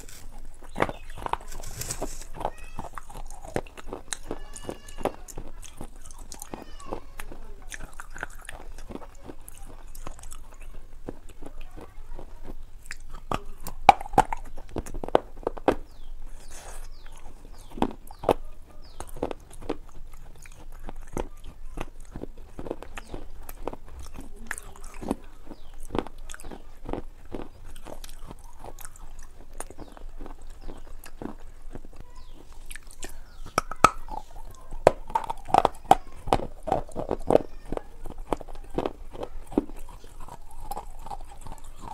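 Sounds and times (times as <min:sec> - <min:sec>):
crunchy bites and chewing: 0:00.0 - 0:41.9
mouth clicks: 0:00.0 - 0:41.9.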